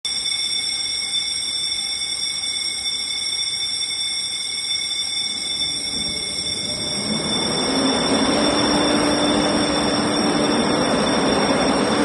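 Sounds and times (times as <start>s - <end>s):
fire alarm ringing: 0.0s - 12.0s.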